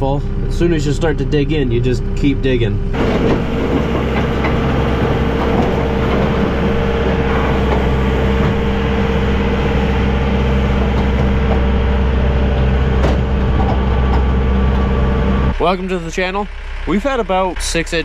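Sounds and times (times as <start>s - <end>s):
road noise: 0.0s - 18.0s
steady hum: 0.0s - 18.0s
vehicle engine running: 0.0s - 18.0s.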